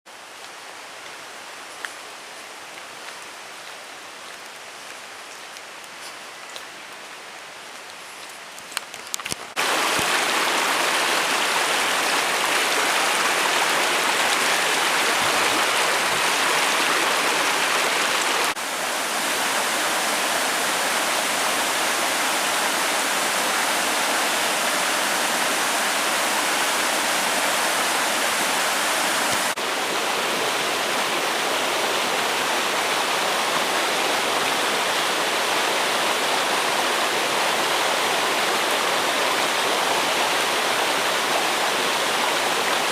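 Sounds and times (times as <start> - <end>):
stream rushing over rocks: 0.1 - 42.9.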